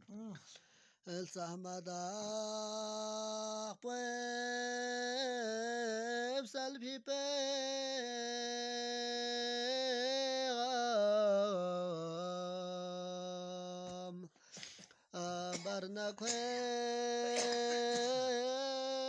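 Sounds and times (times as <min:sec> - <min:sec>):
person singing unaccompanied: 0:00.0 - 0:14.3, 0:15.2 - 0:19.0.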